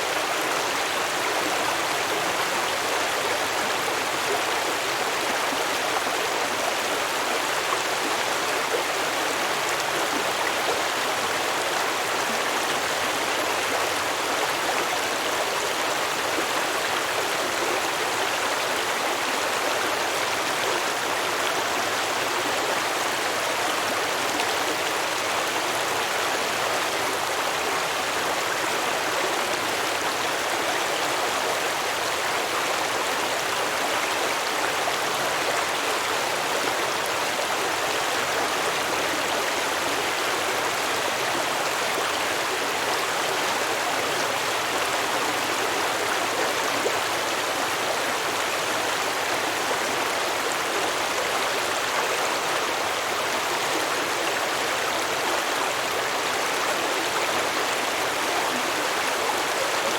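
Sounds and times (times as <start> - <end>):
stream babbling over rocks: 0.0 - 59.9.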